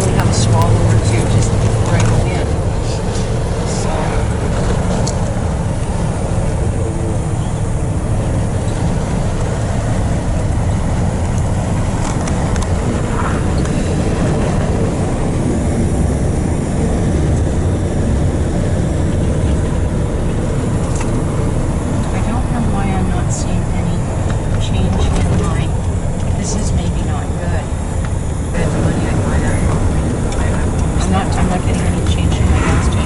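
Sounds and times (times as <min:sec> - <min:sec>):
truck engine and road noise: 0:00.0 - 0:33.0.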